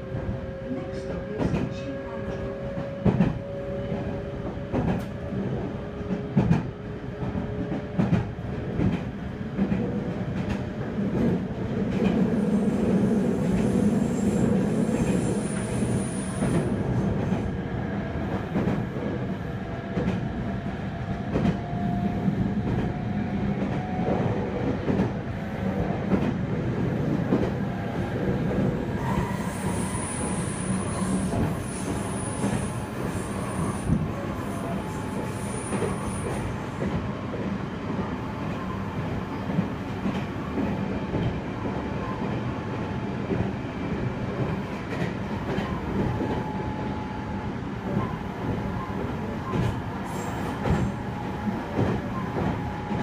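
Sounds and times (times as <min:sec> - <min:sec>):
wheels rumbling on rail: 0:00.0 - 0:53.0.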